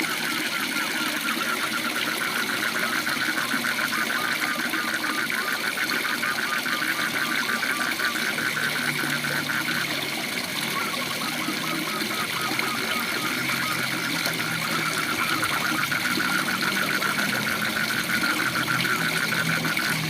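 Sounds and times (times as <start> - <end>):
frog calling: 0.0 - 20.0.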